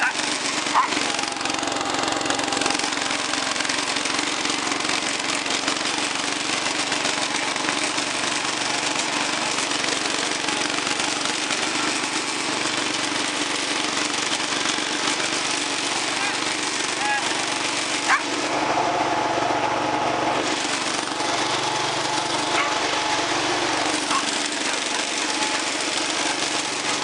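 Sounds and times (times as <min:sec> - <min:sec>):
garden tractor engine running: 0:00.0 - 0:27.0.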